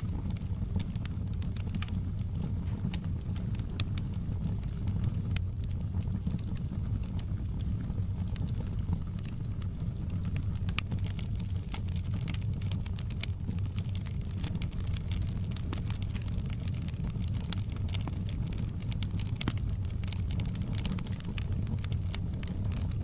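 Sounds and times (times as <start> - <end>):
low rumble of flames: 0.0 - 23.0
wood fire pops and snaps: 0.0 - 23.0.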